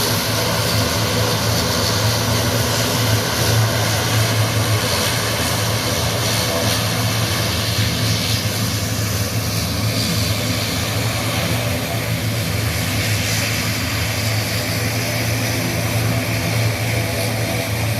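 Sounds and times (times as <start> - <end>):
propeller aircraft flying overhead: 0.0 - 17.9.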